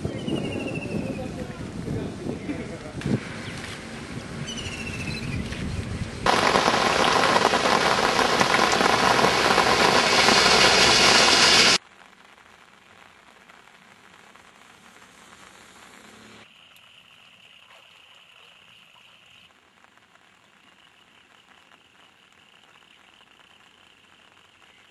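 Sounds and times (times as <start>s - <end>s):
heavy rain: 0.0s - 4.5s, 6.2s - 16.6s, 19.5s - 24.9s
faint rain: 0.0s - 24.9s.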